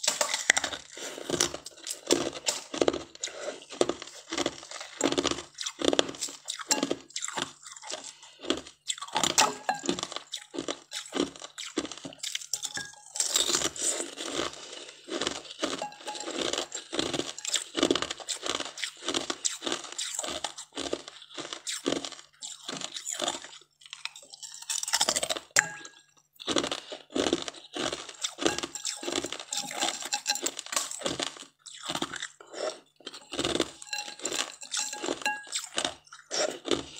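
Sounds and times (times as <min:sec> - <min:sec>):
ice crunching being chewed: 0:00.0 - 0:36.9.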